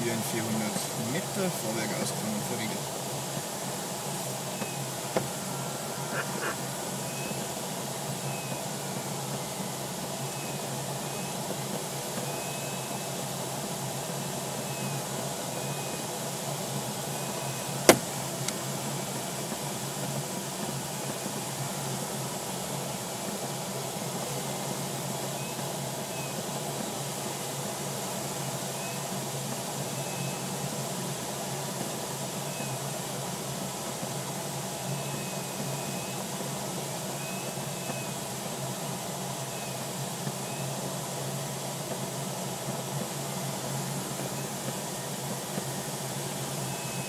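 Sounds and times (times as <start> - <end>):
rush of airflow in cockpit: 0.0 - 47.0.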